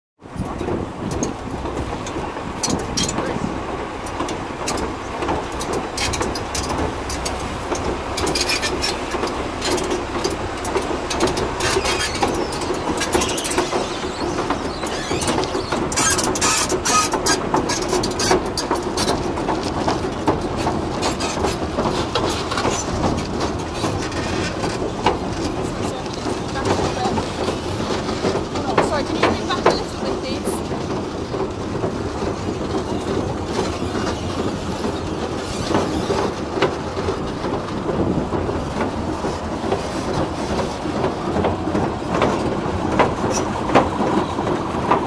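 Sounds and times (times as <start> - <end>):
tank engine running: 0.2 - 45.0
track plates clanking: 0.3 - 45.0.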